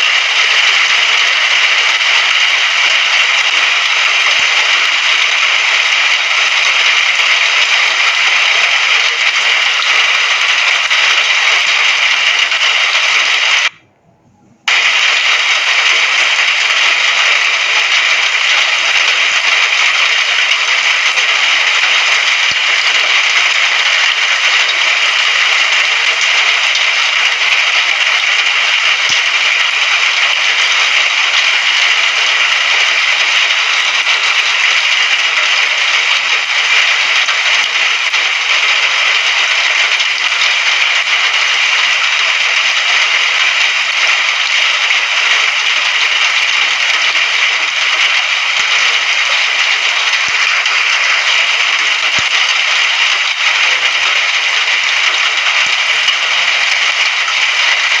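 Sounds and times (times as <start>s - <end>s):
rain falling: 0.0s - 13.8s, 14.6s - 58.0s.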